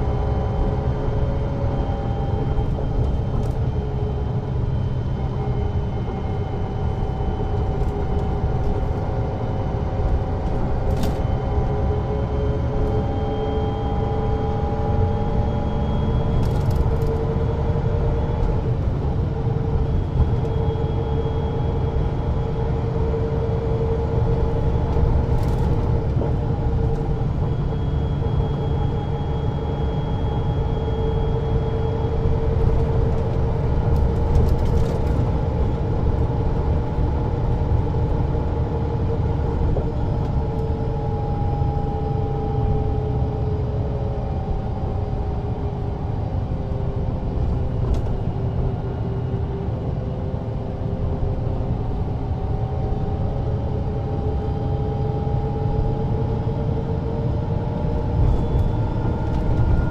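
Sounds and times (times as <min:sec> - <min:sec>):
bus engine low rumble: 0:00.0 - 0:59.9.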